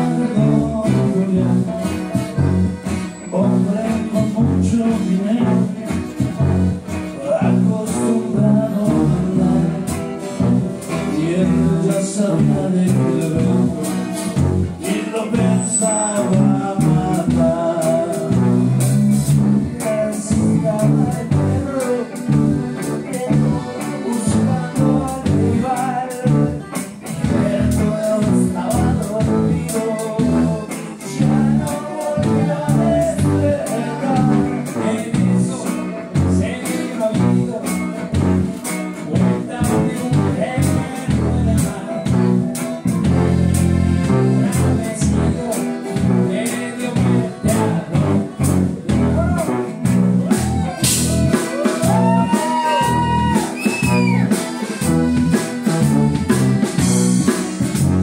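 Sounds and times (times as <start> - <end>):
lead singing: 0.0 - 49.6, 50.2 - 55.0
live band playing: 0.0 - 58.0
tuba bass line: 0.0 - 58.0.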